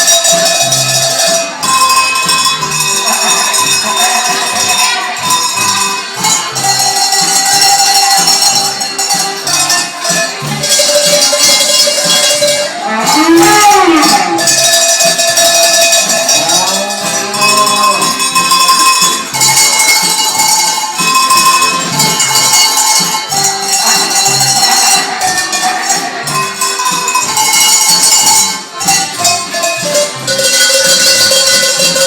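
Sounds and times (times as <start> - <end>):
cowbells playing a melody: 0.0 - 32.0.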